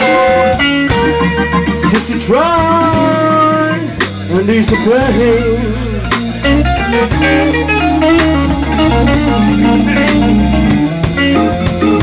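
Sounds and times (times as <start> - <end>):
bass line: 0.0 - 12.0
drums: 0.0 - 12.0
guitar picking single notes: 0.0 - 12.0.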